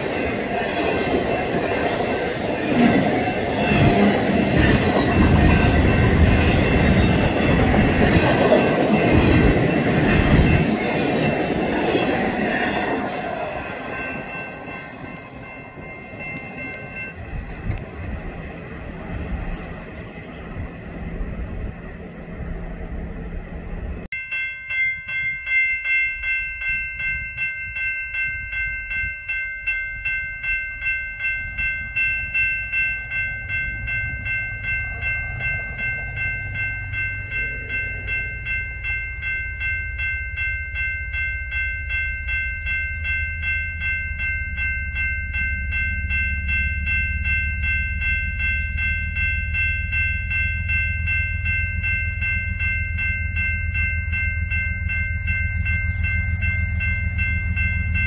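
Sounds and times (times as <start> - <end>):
diesel locomotives rumbling: 0.0 - 24.2, 24.8 - 58.0
railroad crossing bell ringing: 0.0 - 58.0.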